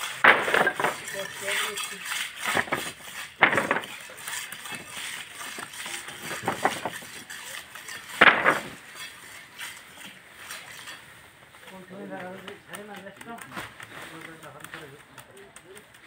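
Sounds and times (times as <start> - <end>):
metal tools scraping concrete: 0.0 - 16.0.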